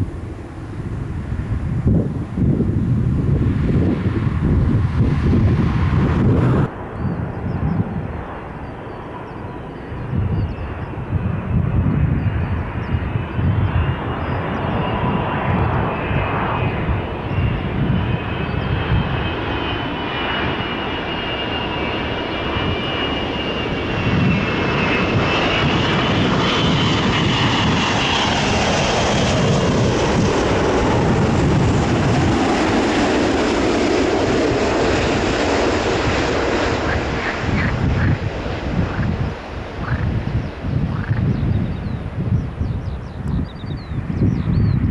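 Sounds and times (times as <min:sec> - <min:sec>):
jet airliner flying past: 0:00.0 - 0:44.9
wind buffeting microphone: 0:00.0 - 0:44.9.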